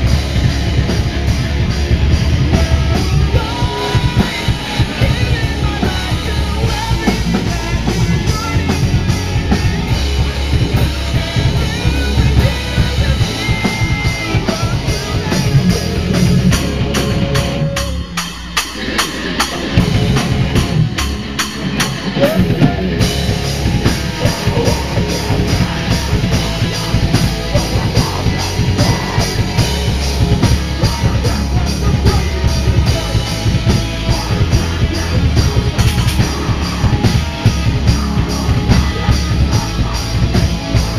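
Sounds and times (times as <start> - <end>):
heavy metal band playing live: 0.0 - 40.9
vocalist on microphone: 0.0 - 40.9.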